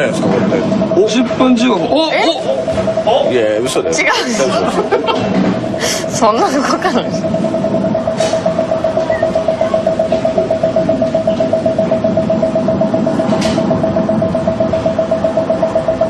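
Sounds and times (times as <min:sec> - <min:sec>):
rapid pulsing tone: 0:00.0 - 0:16.0.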